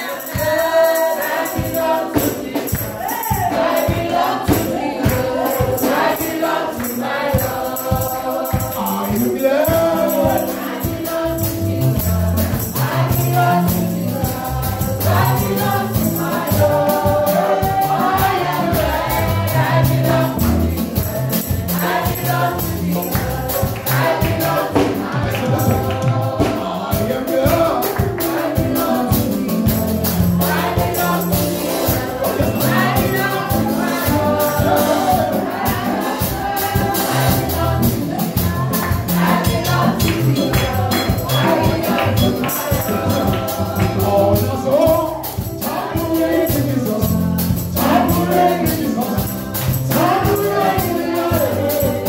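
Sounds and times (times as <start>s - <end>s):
band playing: 0.0s - 52.0s
beating percussion: 0.0s - 52.0s
voices singing gospel: 0.0s - 52.0s.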